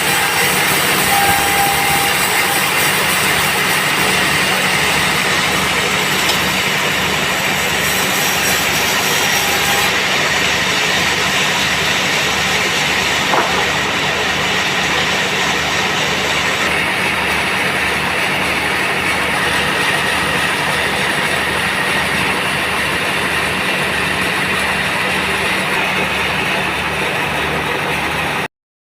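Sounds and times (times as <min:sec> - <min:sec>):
band saw running: 0:00.0 - 0:28.5.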